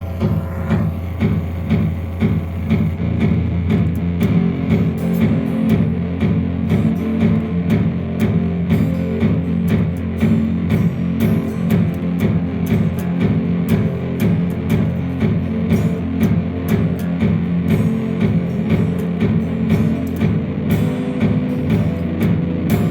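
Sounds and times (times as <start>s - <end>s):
bass guitar: 0.0s - 22.9s
overdriven electric guitar: 0.0s - 22.9s.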